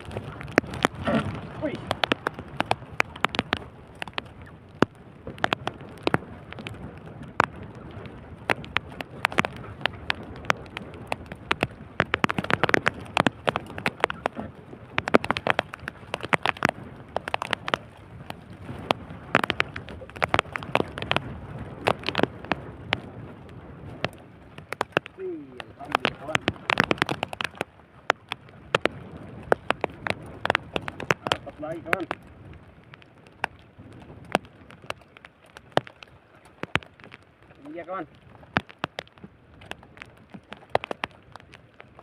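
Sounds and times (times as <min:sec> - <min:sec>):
raindrops tapping: 0:00.0 - 0:42.0.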